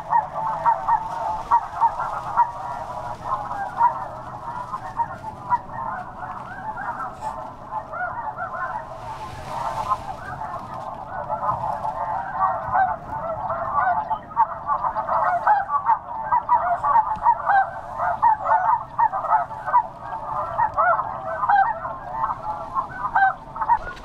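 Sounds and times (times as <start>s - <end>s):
flock of geese honking: 0.0s - 24.0s.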